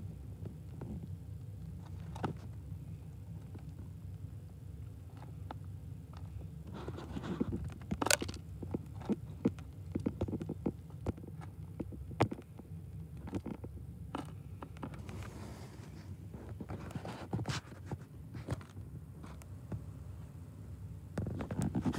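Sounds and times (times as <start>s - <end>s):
low steady hum: 0.0s - 21.9s.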